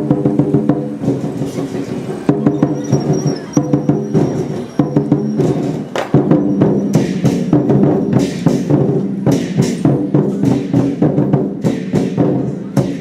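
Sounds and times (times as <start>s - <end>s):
drum beaten fast: 0.0s - 13.0s.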